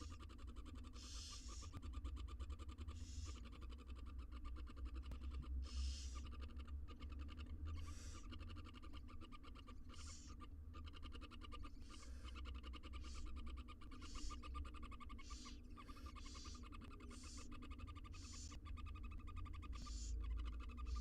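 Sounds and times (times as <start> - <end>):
owl nestlings hissing calls: 0.0 - 21.0
steady low hum: 0.0 - 21.0.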